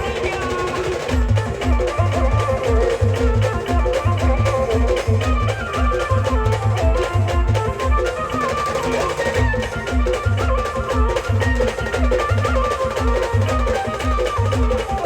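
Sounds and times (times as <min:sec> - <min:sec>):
heavy bass drum beat: 0:00.0 - 0:15.0
live band instrumental music: 0:00.0 - 0:15.0.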